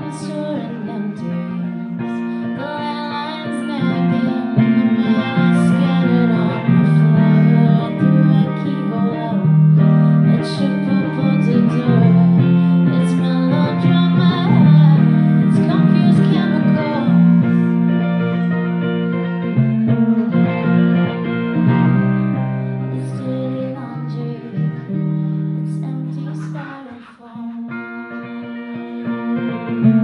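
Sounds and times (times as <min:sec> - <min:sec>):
woman singing: 0:00.0 - 0:17.7, 0:22.9 - 0:30.0
electric guitar strumming: 0:00.0 - 0:30.0.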